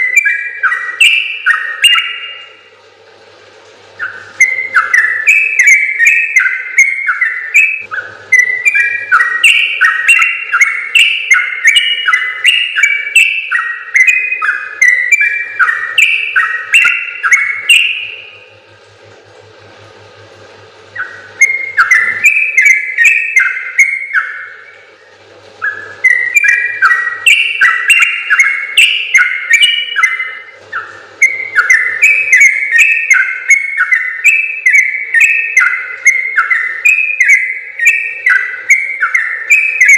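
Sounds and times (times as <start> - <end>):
bulbul singing bubbly whistles: 0.0 - 2.7, 3.9 - 18.7, 20.8 - 39.9.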